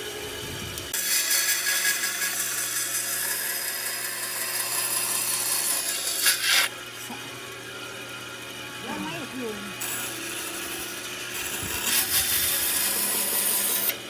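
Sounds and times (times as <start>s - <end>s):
tool sawing or sanding wood: 0.0s - 7.2s, 8.8s - 14.0s.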